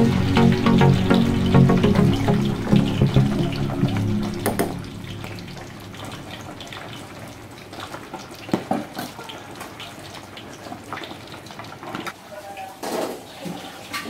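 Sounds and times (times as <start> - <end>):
broth bubbling in a pot: 0.4 - 14.0.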